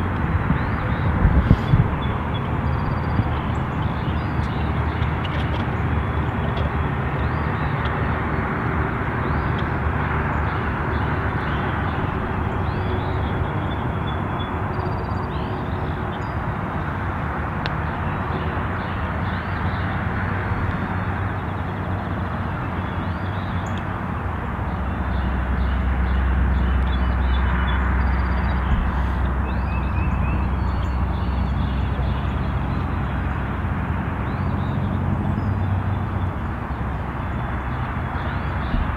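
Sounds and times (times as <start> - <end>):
distant road traffic rumble: 0.0 - 38.9.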